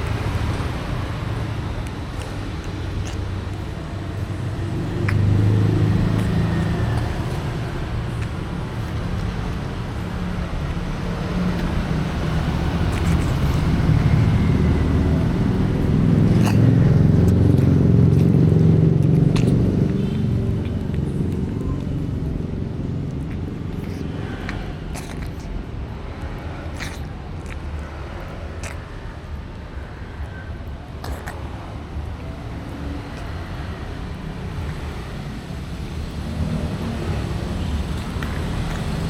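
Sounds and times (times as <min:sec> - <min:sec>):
vehicle rumble: 0:00.0 - 0:39.0.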